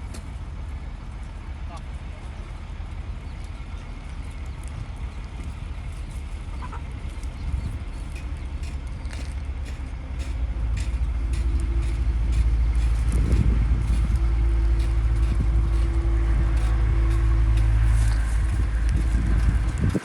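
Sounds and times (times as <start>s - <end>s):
low engine-like rumble: 0.0s - 20.0s.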